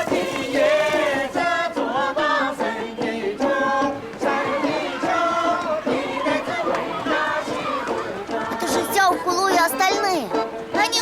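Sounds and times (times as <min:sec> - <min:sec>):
song with voices singing: 0:00.0 - 0:10.9.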